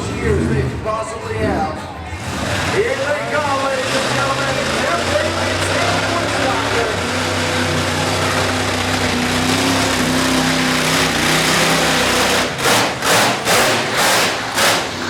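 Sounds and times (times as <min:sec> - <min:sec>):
truck engine running and revving: 0:00.0 - 0:15.0.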